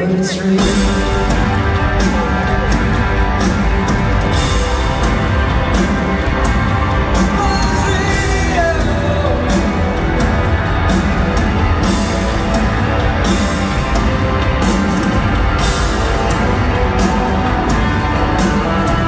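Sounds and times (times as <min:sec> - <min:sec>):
live rock band playing loudly: 0:00.0 - 0:19.0.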